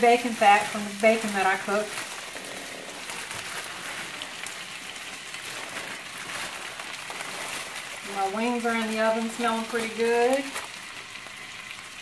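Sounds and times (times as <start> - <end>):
corn sizzling in fat: 0.0 - 12.0.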